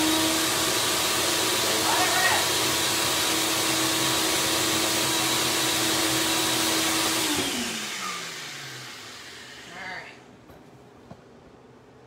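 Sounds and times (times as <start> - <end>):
blender motor spinning down: 0.0 - 10.1
blender running: 0.0 - 10.1.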